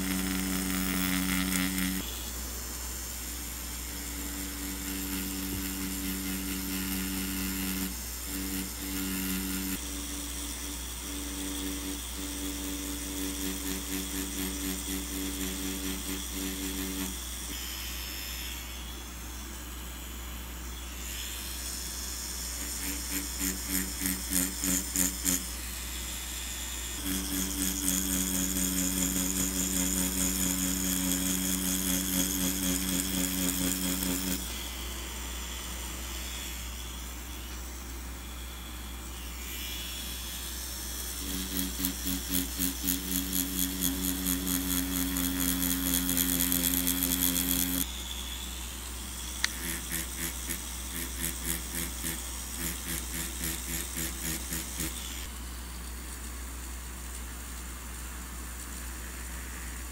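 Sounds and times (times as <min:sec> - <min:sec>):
tattoo machine buzzing: 0:00.0 - 0:55.3.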